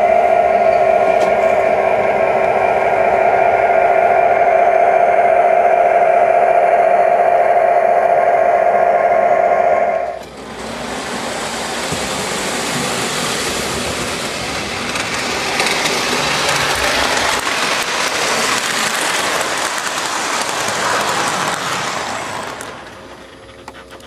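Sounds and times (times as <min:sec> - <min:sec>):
model train rumbling on track: 0:00.0 - 0:24.0.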